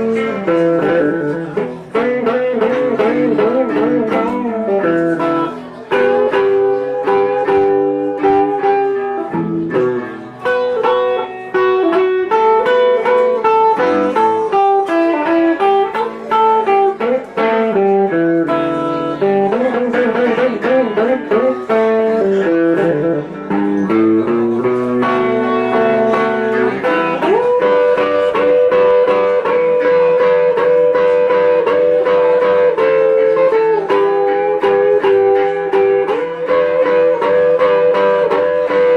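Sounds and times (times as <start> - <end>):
live blues band playing: 0.0 - 38.9.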